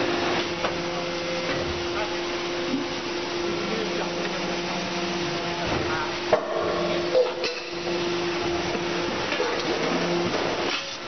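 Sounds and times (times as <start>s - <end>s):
machinery motor hum: 0.0s - 10.7s.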